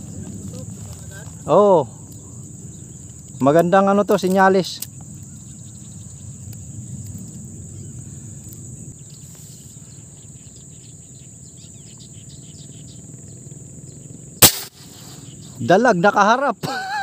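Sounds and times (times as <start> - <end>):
faint bird chirps: 0.0 - 16.4.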